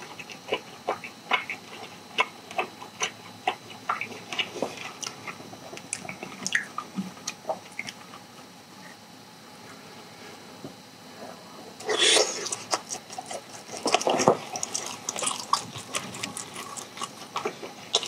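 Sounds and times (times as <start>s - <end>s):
wet chewing and smacking: 0.0s - 8.5s, 11.8s - 18.0s.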